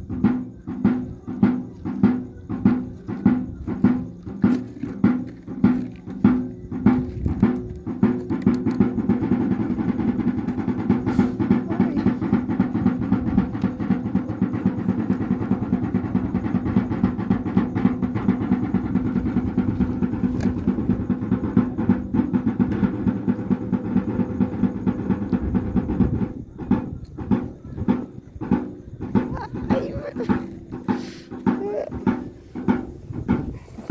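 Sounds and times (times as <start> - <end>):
drum roll with sticks: 0.0 - 33.9.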